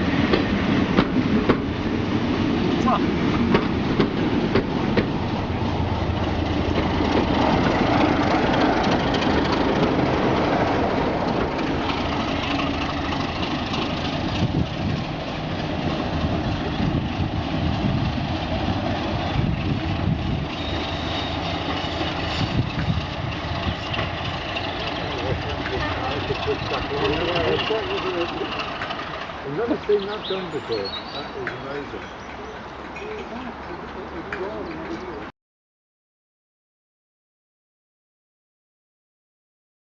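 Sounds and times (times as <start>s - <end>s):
diesel train engine rumble: 0.0s - 35.3s
train wheel and rail noise: 0.0s - 35.3s.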